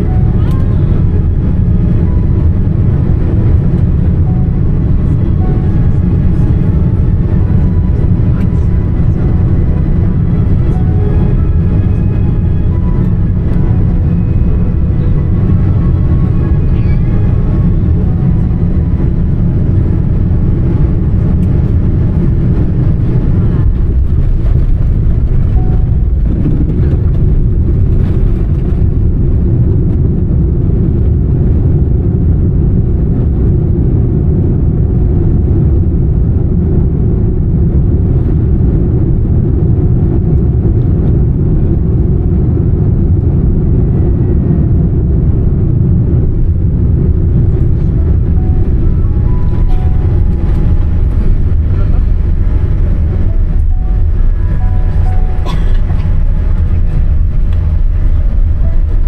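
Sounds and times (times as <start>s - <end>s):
jet engines rumbling: 0.0s - 59.0s
rushing air in cabin: 0.0s - 59.0s.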